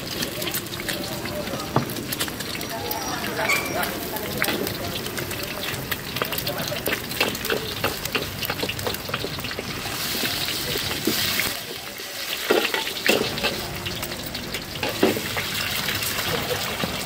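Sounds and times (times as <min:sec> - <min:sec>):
egg sizzling in hot oil: 0:00.0 - 0:17.0.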